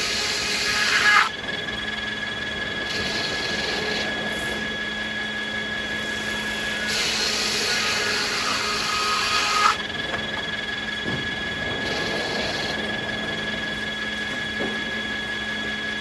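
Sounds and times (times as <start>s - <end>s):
circular saw cutting wood: 0.0s - 15.6s
sawmill machinery humming: 0.0s - 16.0s.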